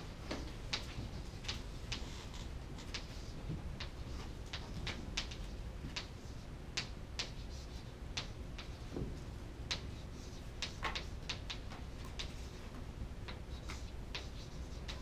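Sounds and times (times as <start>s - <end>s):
low room hum: 0.0s - 15.0s
chalk tapping and scratching: 0.3s - 15.0s.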